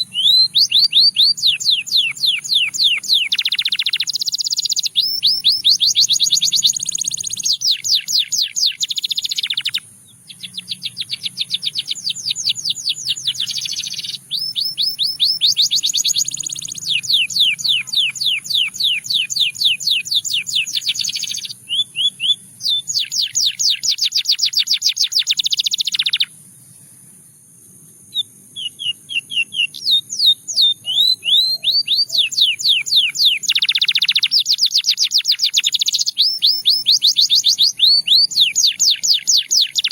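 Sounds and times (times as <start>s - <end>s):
canary singing trills: 0.0s - 27.0s, 28.1s - 39.9s.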